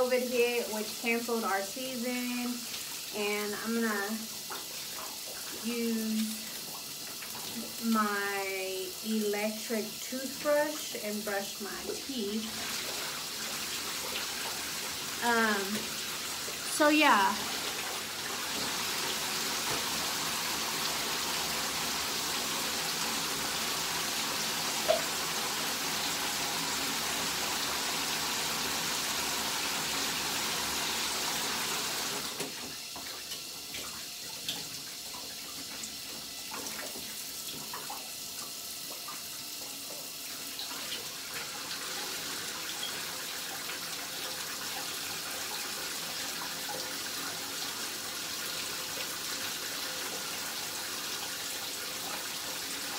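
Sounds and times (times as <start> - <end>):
shower water spraying: 0.0 - 52.9.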